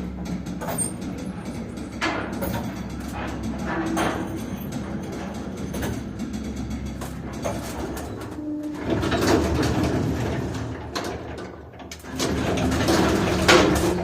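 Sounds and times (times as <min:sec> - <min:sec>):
lift creaking and rattling: 0:00.0 - 0:14.0.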